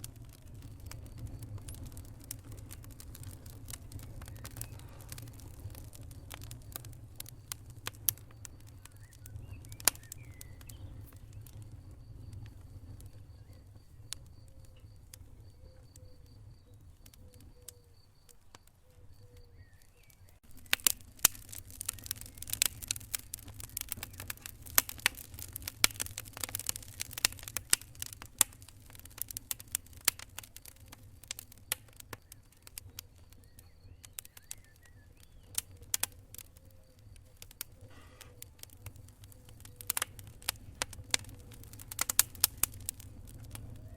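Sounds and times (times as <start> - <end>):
fire crackles and pops: 0.0 - 43.9
wood fire rumbling: 0.0 - 43.9.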